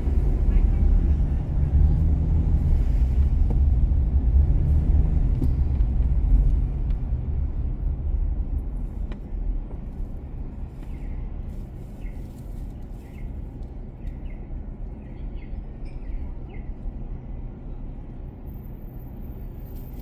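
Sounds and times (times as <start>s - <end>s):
motor vehicle rumble: 0.0s - 20.0s.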